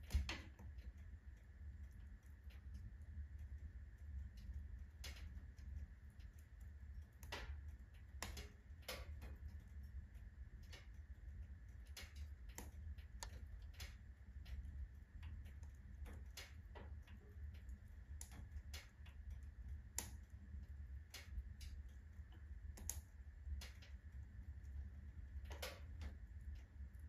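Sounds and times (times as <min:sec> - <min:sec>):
firewood crackling and popping: 0:00.0 - 0:01.0, 0:03.4 - 0:10.9, 0:11.8 - 0:26.6
low fire rumble: 0:00.0 - 0:27.0.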